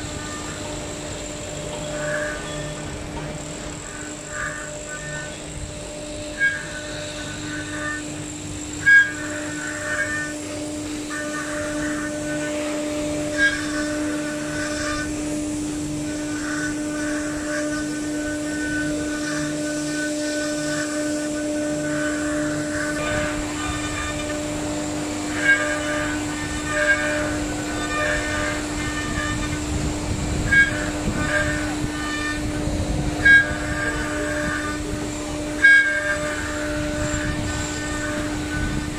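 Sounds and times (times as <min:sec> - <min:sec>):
router bit cutting wood: 0:00.0 - 0:38.9
router spindle whine: 0:00.0 - 0:38.9.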